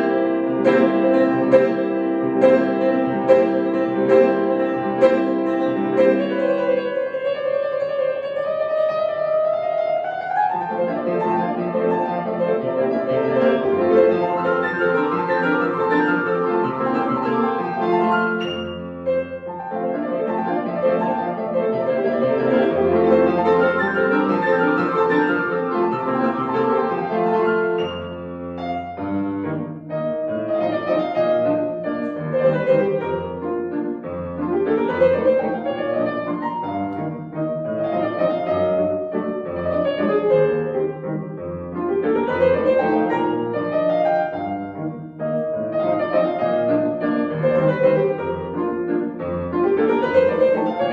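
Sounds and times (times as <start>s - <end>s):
solo classical piano: 0.0s - 50.9s.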